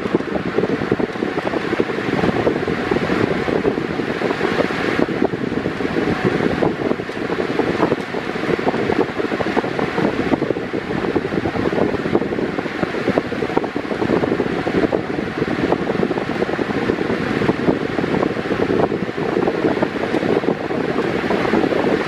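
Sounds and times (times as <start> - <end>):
pedestal fan blowing air: 0.0 - 22.0.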